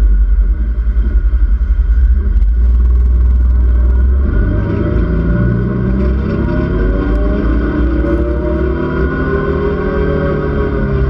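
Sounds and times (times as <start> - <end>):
wind rumble on microphone: 0.0 - 9.1
utility vehicle engine running: 0.0 - 11.0.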